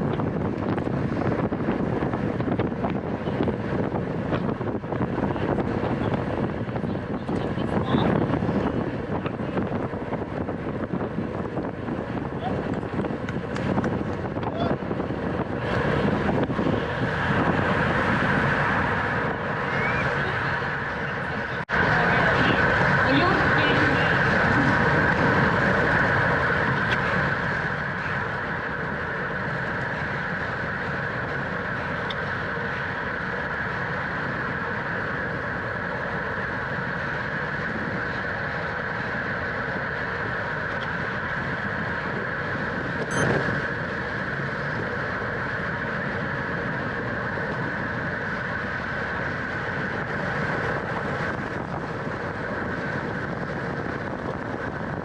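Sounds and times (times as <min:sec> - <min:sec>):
bicycle riding noise: 0:00.0 - 0:55.0.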